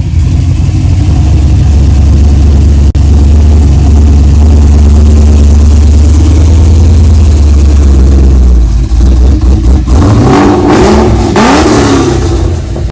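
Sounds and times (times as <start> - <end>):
loud car engine revving: 0.0 - 12.9.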